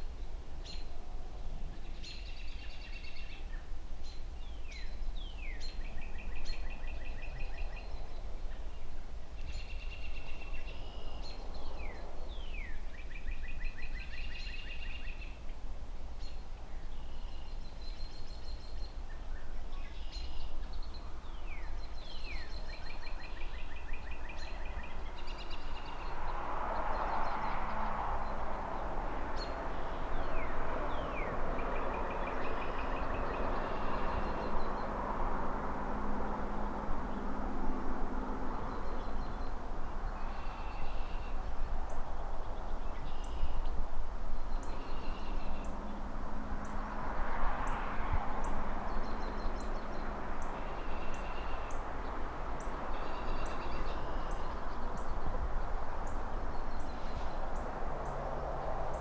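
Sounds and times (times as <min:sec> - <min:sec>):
distant city traffic hum: 0:00.0 - 0:59.0
songbirds chirping and trilling: 0:00.0 - 0:59.0.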